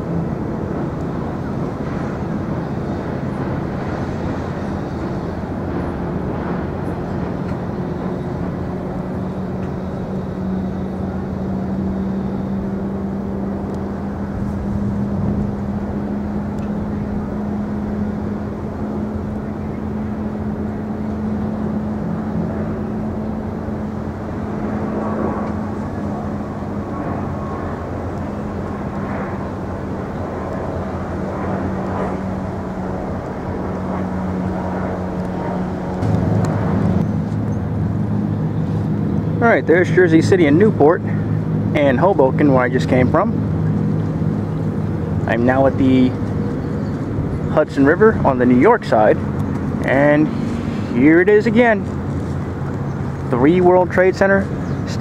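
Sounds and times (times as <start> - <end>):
low engine drone: 0.0 - 55.0
water noise: 0.0 - 55.0
wind: 0.0 - 55.0.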